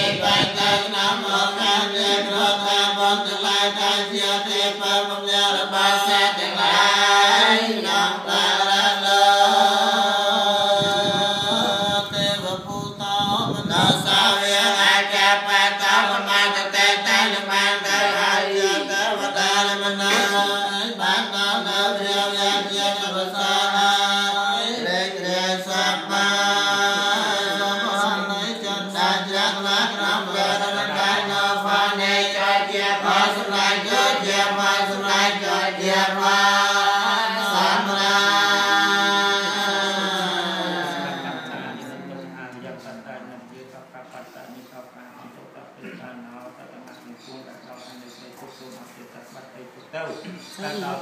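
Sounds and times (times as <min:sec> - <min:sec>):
monks chanting in unison: 0:00.0 - 0:49.6.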